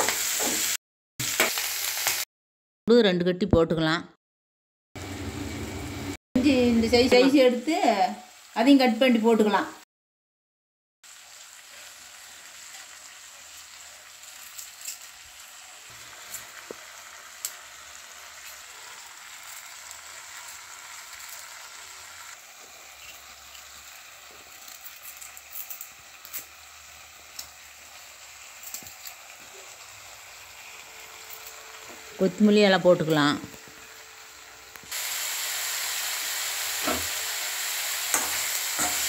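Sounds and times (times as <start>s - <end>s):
vegetables sizzling in hot oil: 0.0s - 2.3s, 5.0s - 9.8s, 11.0s - 39.0s.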